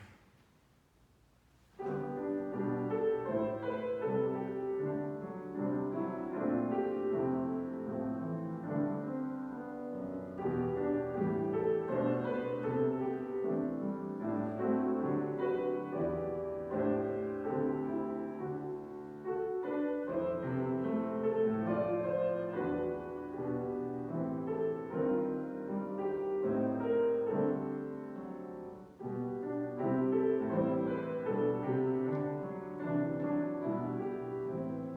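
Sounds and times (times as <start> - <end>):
piano playing slow chords: 1.8 - 34.9.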